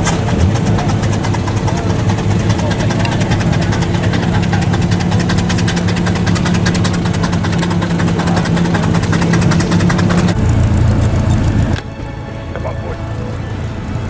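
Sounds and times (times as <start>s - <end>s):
rapid even ticking: 0.0s - 13.9s
engine idling: 0.0s - 14.0s.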